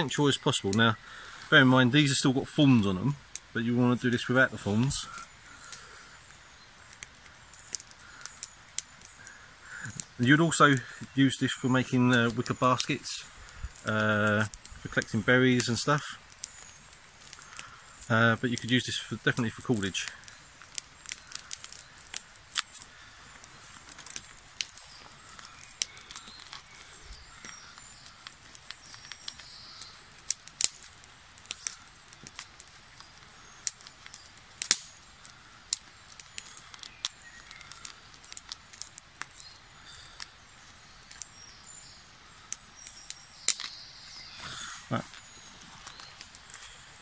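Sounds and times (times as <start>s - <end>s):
stem cracking: 0.0s - 47.0s.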